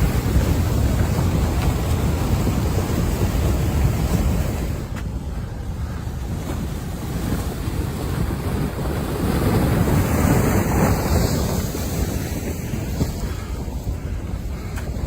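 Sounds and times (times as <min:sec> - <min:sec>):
rough water rushing: 0:00.0 - 0:15.0
wind: 0:00.0 - 0:15.0
wind buffeting microphone: 0:00.0 - 0:15.0.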